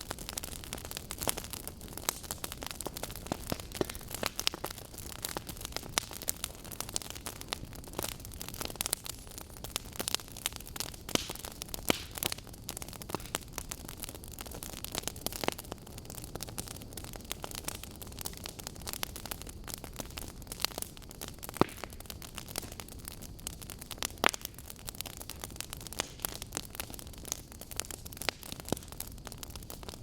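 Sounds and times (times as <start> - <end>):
fire low hiss: 0.0 - 30.0
logs crackling and popping: 0.0 - 30.0.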